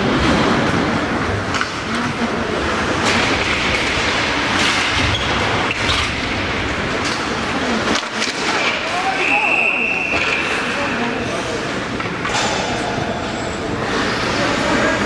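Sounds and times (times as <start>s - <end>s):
steady rink rumble: 0.0s - 15.0s.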